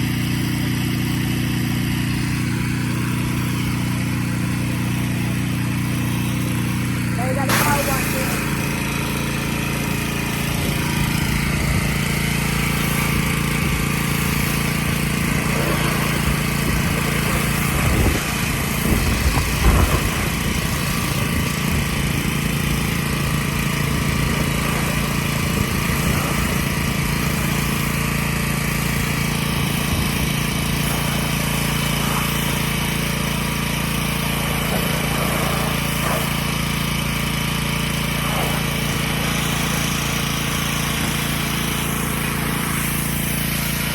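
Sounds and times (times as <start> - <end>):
motor running steadily: 0.0 - 43.9.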